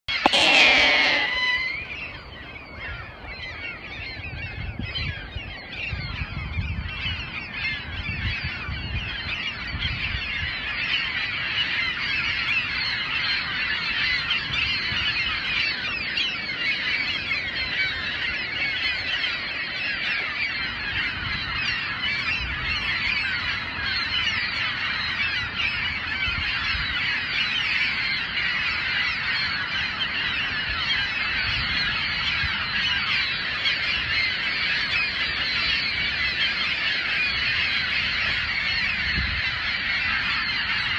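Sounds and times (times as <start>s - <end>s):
flock of gulls calling: 0.0s - 40.9s.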